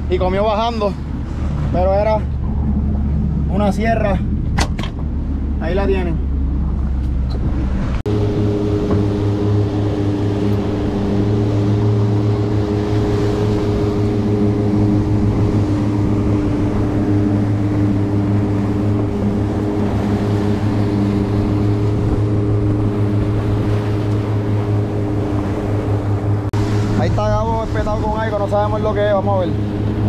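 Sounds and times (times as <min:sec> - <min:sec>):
outboard motors running: 0:00.0 - 0:30.0
water rushing in wake: 0:00.0 - 0:30.0.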